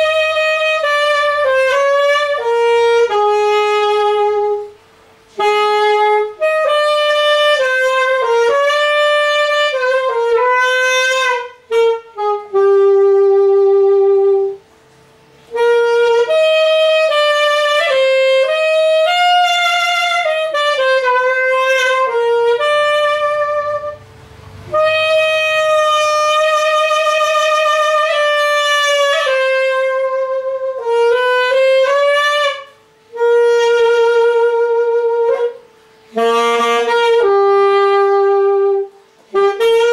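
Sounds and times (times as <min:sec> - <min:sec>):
alto saxophone melody: 0:00.0 - 0:39.9.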